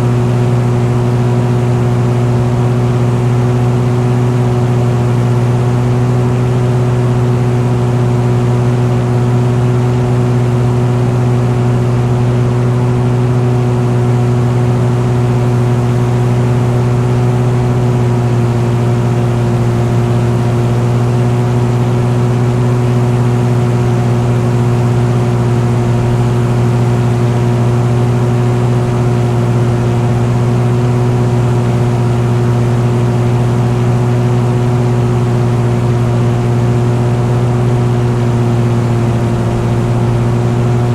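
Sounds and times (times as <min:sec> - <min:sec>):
engine droning steadily: 0:00.0 - 0:40.9.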